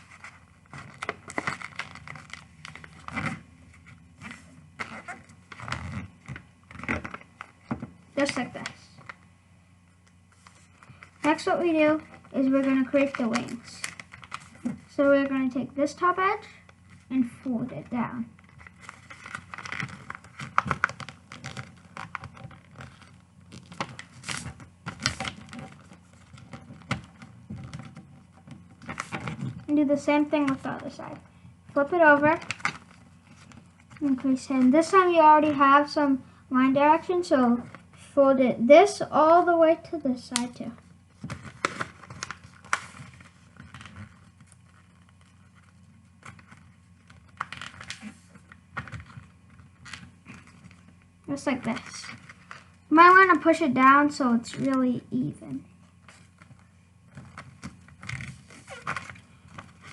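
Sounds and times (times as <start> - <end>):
paper being folded and creased: 0.0 - 9.3, 10.0 - 15.0, 16.8 - 36.0, 40.0 - 53.7, 55.8 - 59.9.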